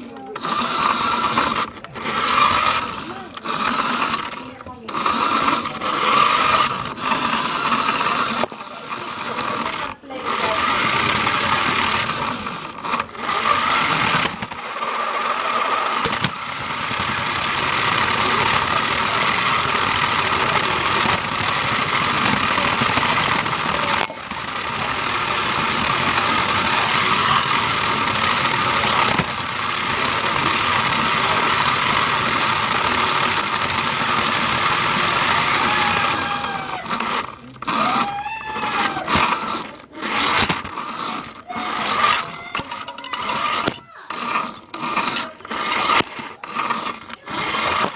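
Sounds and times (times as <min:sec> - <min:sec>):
toy car motor whining: 0:00.0 - 0:47.9.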